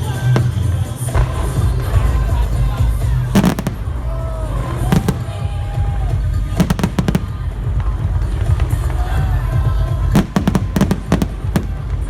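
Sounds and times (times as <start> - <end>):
fireworks bursting: 0.1 - 9.2, 9.8 - 12.0.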